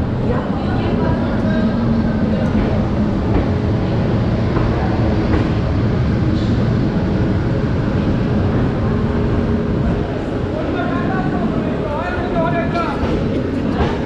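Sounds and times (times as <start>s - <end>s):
moving train rumbling: 0.0s - 14.0s.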